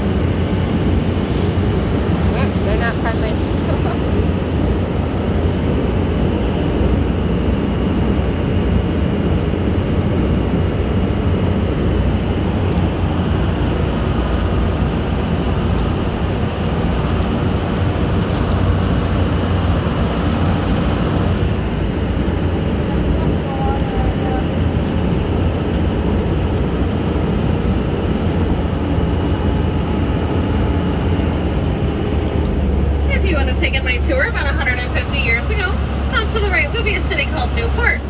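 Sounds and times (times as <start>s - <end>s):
boat engine low rumble: 0.0s - 38.0s.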